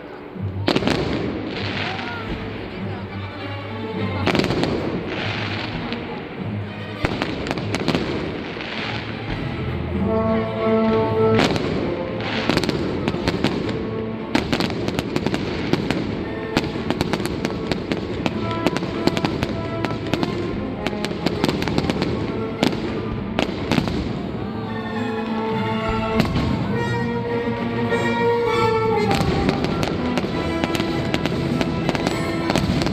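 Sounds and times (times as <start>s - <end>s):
music playing: 0.0s - 32.9s
fireworks bangs and crackles: 0.6s - 3.1s, 4.1s - 24.4s, 25.3s - 32.9s.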